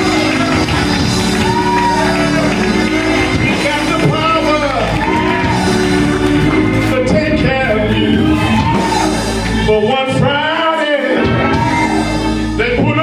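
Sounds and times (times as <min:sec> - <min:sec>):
person singing gospel: 0:00.0 - 0:13.0
steady bass: 0:00.0 - 0:13.0
sustained keyboard chords: 0:00.0 - 0:13.0.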